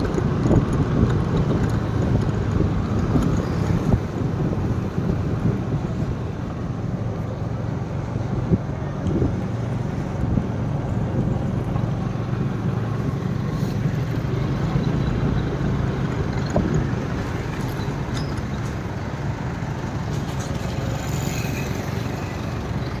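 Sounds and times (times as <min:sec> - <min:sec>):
road noise: 0:00.0 - 0:23.0
street traffic: 0:00.0 - 0:23.0
vehicle engine drone: 0:00.0 - 0:23.0.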